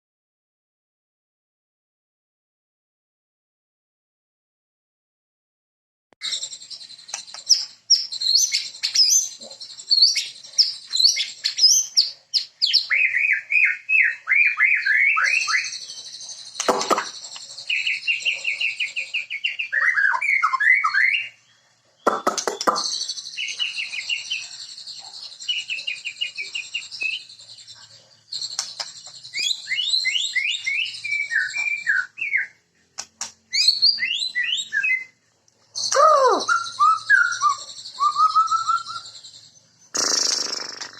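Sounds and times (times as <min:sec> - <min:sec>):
songbird singing trills and whistles: 0:06.2 - 0:40.9.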